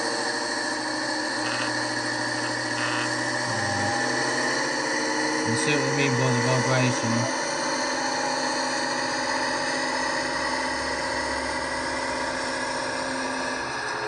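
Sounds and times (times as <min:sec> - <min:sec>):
diesel engine drone from small speaker: 0:00.0 - 0:14.0.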